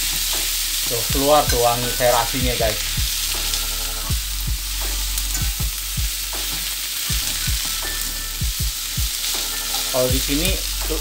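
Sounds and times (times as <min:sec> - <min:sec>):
greens sizzling in hot oil: 0:00.0 - 0:11.0
metal spatula scraping a wok: 0:00.0 - 0:11.0.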